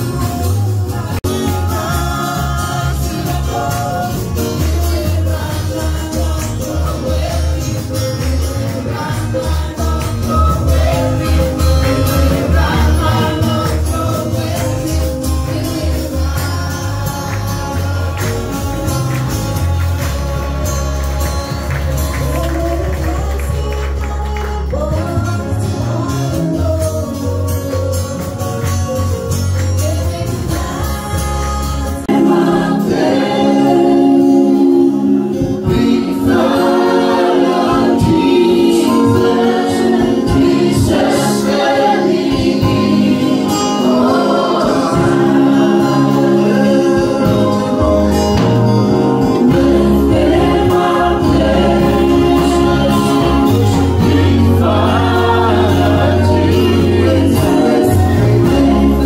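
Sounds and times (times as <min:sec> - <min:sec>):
band with heavy bass: 0:00.0 - 0:59.0
group of voices singing: 0:00.0 - 0:59.0.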